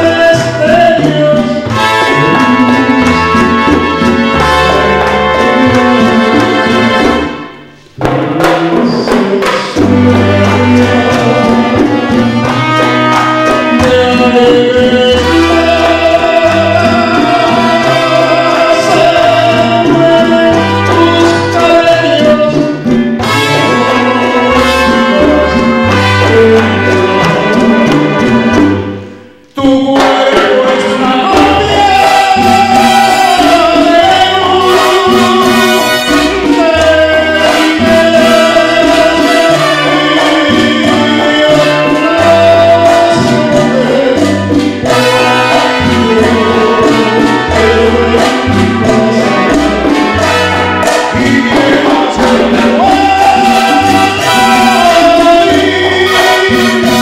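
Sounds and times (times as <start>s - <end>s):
latin dance band with trumpets: 0.0s - 57.0s.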